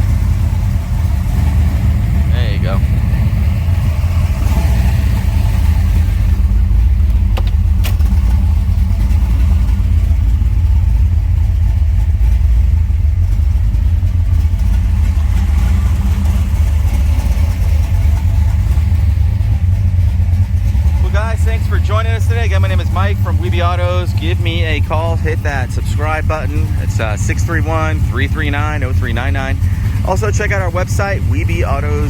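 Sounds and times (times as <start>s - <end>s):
car engine rumbling: 0.0s - 32.0s.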